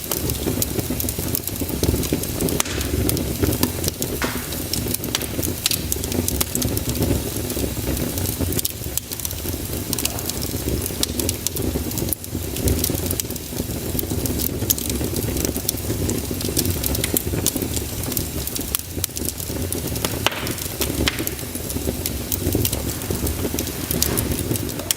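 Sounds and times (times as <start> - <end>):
fire crackling and popping: 0.0 - 24.9
low rumble of flames: 0.0 - 24.9.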